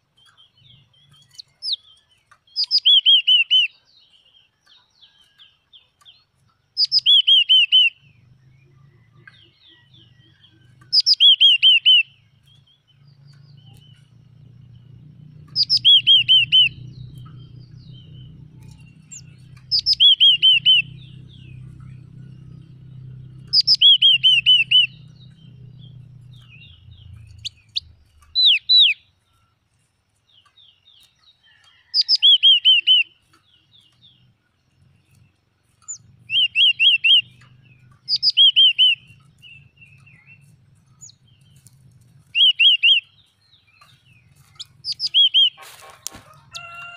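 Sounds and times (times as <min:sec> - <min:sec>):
bird singing ringing notes: 0:00.0 - 0:29.6, 0:31.5 - 0:45.6.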